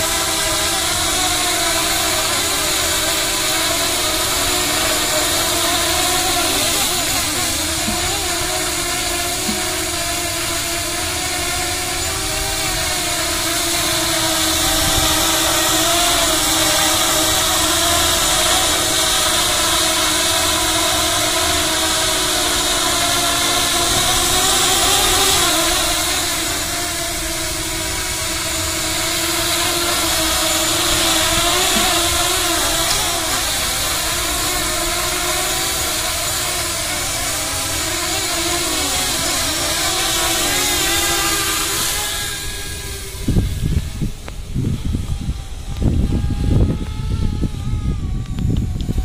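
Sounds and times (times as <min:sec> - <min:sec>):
drone motors buzzing whine: 0:00.0 - 0:49.0.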